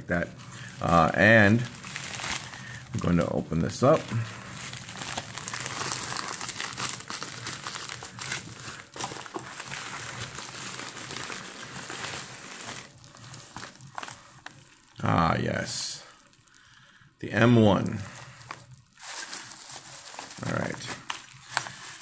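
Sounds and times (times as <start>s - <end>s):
plastic mailer crinkling: 0.0s - 22.0s.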